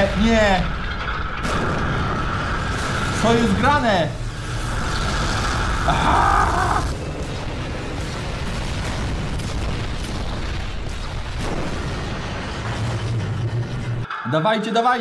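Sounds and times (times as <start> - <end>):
rumble of explosions: 0.0 - 14.1.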